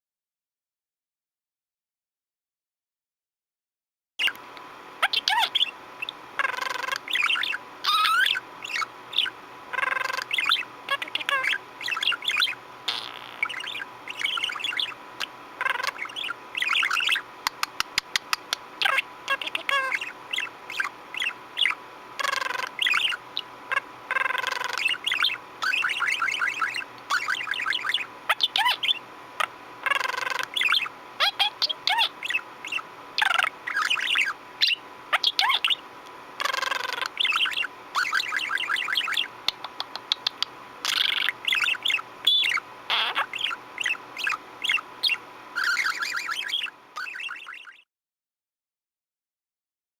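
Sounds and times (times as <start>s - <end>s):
budgerigar chattering: 5.0s - 35.8s, 36.4s - 47.8s.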